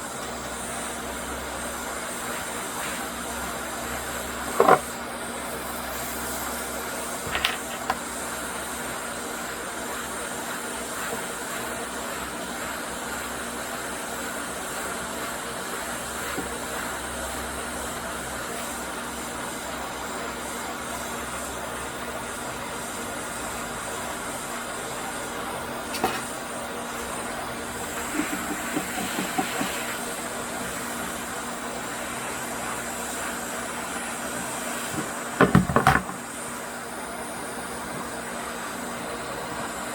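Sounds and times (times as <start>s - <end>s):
hot air gun hissing: 0.0s - 39.9s.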